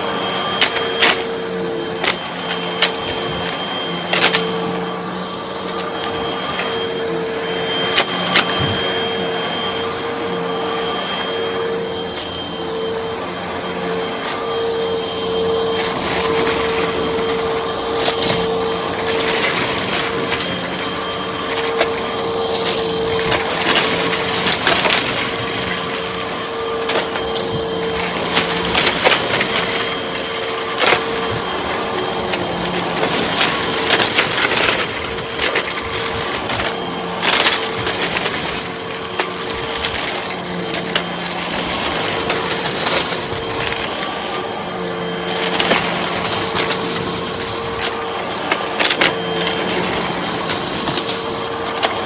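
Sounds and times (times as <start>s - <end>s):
debris crackling in vacuum: 0.0s - 52.0s
vacuum cleaner motor whine: 0.0s - 52.0s.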